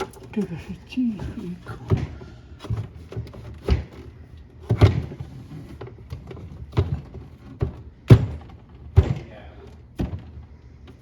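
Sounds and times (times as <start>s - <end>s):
ice maker parts knocking and clicking: 0.0s - 0.8s, 1.6s - 11.0s.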